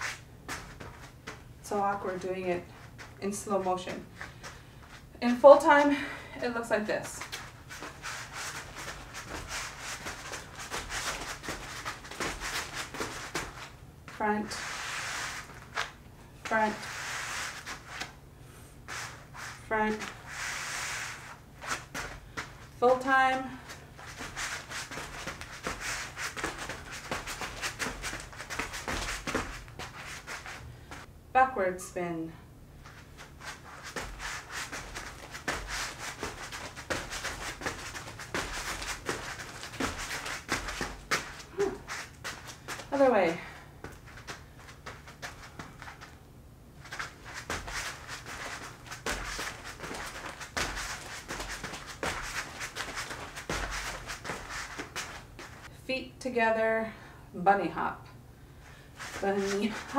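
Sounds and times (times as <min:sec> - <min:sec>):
soft footsteps on foam mat: 0:00.0 - 0:06.1, 0:06.9 - 0:31.1, 0:32.8 - 0:55.7, 0:59.0 - 0:59.9.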